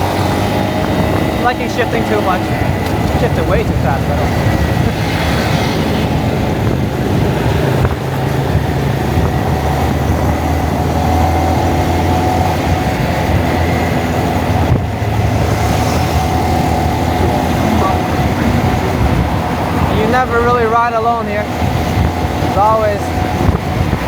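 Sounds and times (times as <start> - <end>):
motorcycle engine running: 0.0 - 24.0
wind noise on microphone: 0.0 - 24.0.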